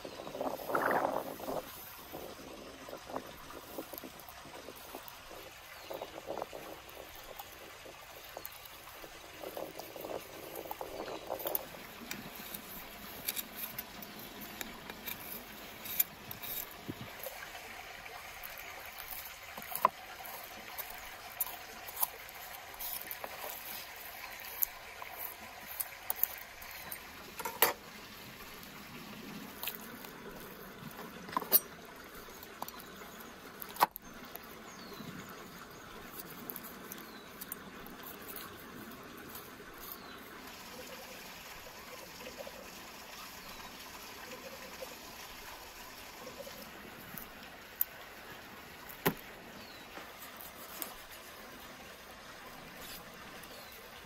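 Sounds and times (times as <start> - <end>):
liquid bubbling in a pan: 0.0 - 54.0.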